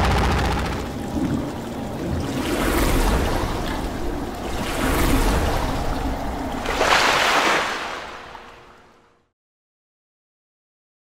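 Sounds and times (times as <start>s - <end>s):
splashing rushing water: 0.0s - 9.2s.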